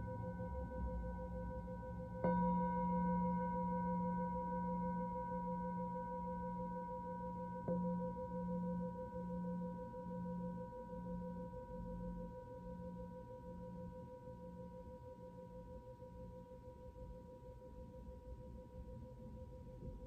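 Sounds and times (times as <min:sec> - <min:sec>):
singing bowl ringing: 0:00.0 - 0:19.1.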